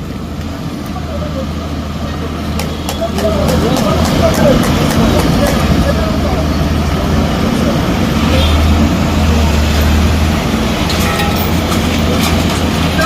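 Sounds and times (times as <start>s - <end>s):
heavy machinery engine droning: 0.0s - 13.0s.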